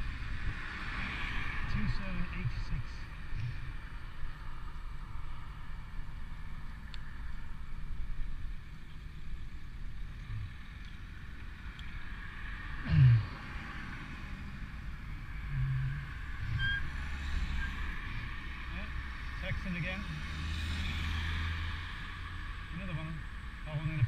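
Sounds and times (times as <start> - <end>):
cars on a wet road: 0.0 - 24.0.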